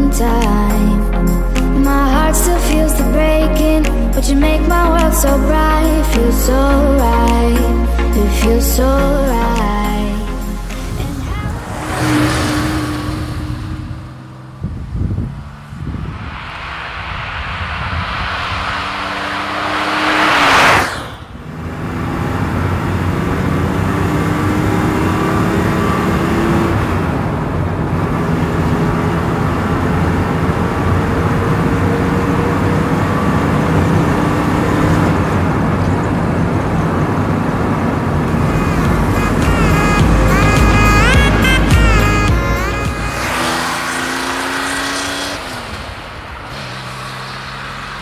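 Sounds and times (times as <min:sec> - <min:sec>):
car engine accelerating: 0:00.0 - 0:48.0
car passing by: 0:00.3 - 0:48.0.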